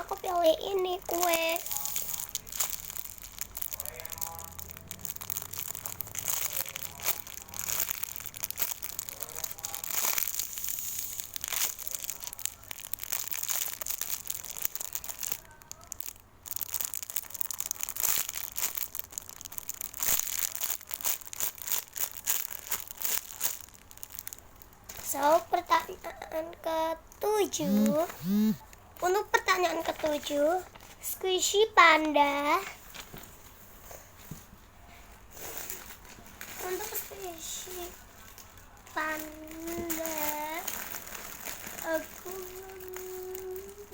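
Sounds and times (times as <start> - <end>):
squishy toy crinkling: 0.0 - 33.2, 35.4 - 43.9.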